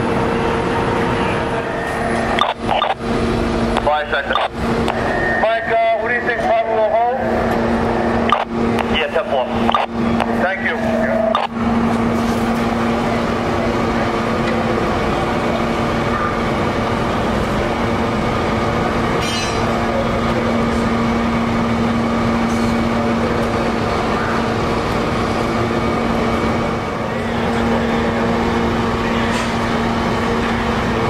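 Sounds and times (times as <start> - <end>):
fire engines droning: 0.0 - 31.0.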